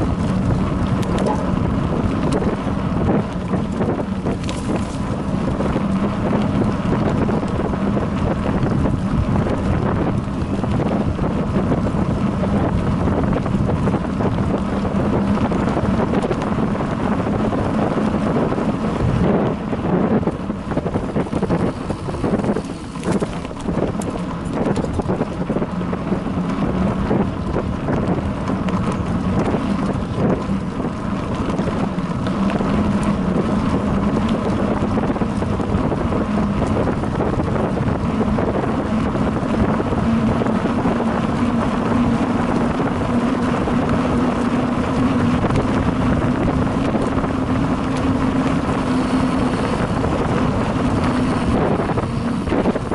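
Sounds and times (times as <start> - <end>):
bicycle knocks and rattles: 0.0 - 52.9
low rumble: 0.0 - 52.9
wind buffeting microphone: 0.0 - 52.9.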